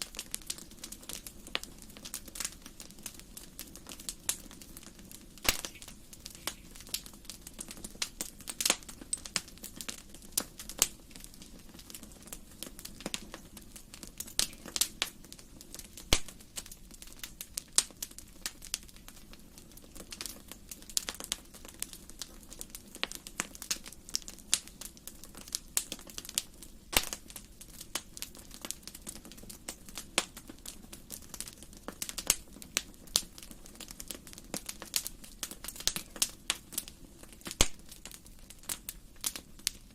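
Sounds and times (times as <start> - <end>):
low steady fire hiss: 0.0 - 39.9
wood fire crackling and popping: 0.0 - 39.9.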